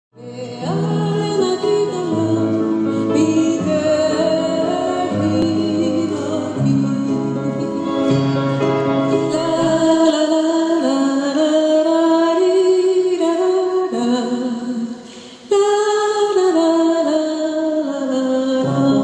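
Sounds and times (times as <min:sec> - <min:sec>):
person singing slow song: 0:00.2 - 0:08.4, 0:09.1 - 0:19.0.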